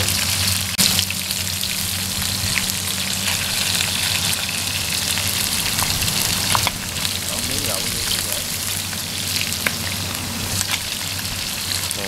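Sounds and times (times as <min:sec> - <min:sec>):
low steady hum: 0:00.0 - 0:12.0
meat sizzling in hot oil: 0:00.0 - 0:12.0.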